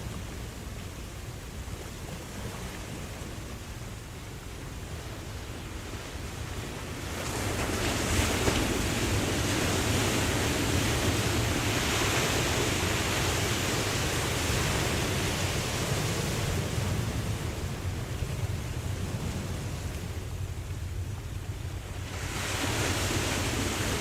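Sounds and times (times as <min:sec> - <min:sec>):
ocean waves breaking: 0:00.0 - 0:24.0.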